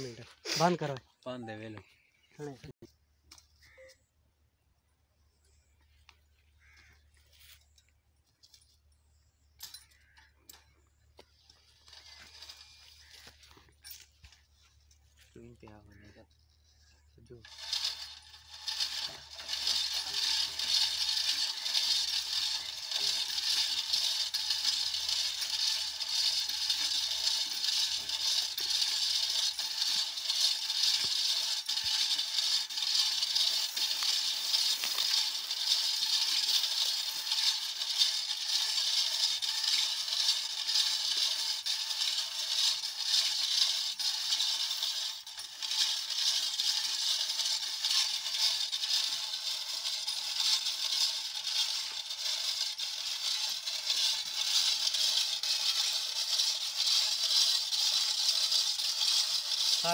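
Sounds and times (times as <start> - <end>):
rattling whir of chain and belt: 5.4 - 59.9.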